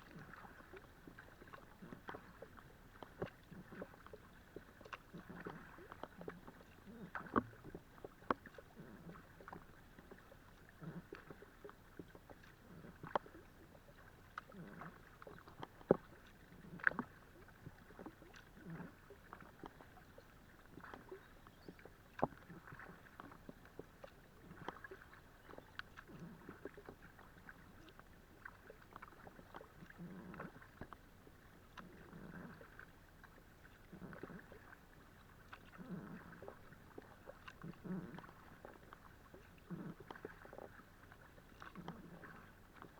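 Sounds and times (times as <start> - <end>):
kayak paddle strokes in water: 0.0 - 42.9
water splashing against hull: 0.0 - 42.9.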